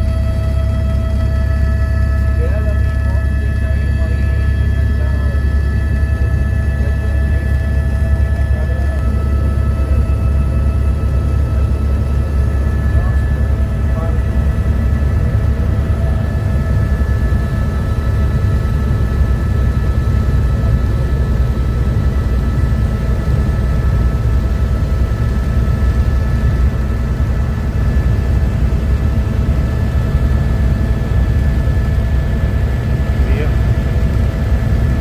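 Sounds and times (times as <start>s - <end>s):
helicopter rotor beat: 0.0s - 35.0s
helicopter whine: 0.0s - 35.0s.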